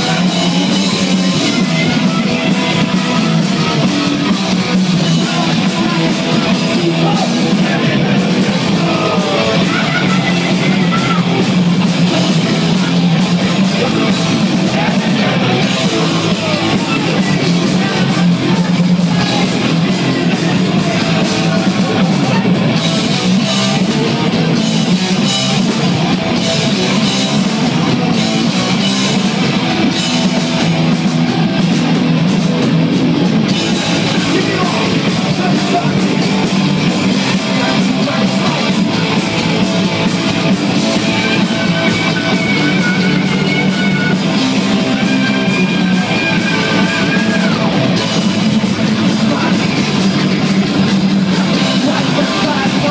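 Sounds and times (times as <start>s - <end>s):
heavy metal band playing live: 0.0s - 52.9s.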